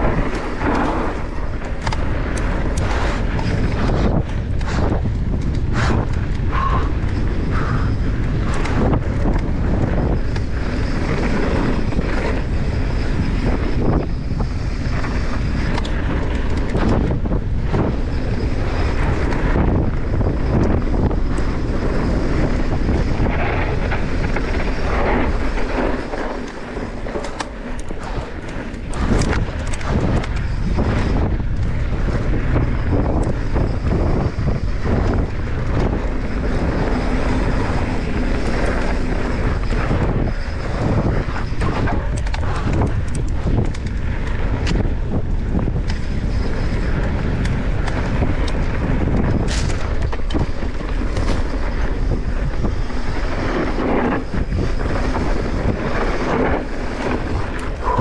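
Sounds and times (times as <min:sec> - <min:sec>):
bike rattling over bumps: 0:00.0 - 0:58.0
tyres on dirt: 0:00.0 - 0:58.0
wind buffeting microphone: 0:00.0 - 0:58.0.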